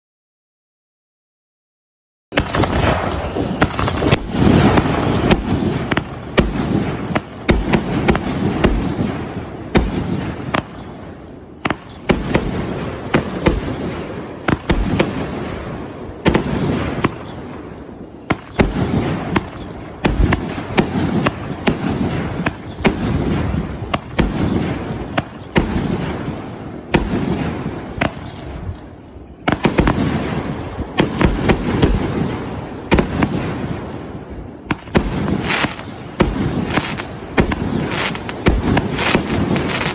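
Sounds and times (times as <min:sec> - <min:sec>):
fireworks bangs: 0:02.3 - 0:39.9
fireworks crackling rush: 0:02.3 - 0:39.9.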